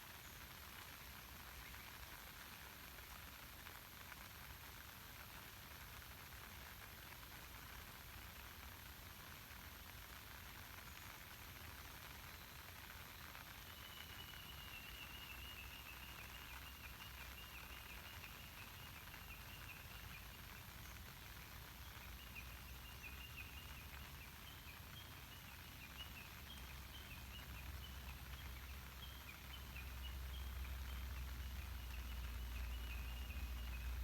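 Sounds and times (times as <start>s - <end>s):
light rain on a lake: 0.0s - 34.0s.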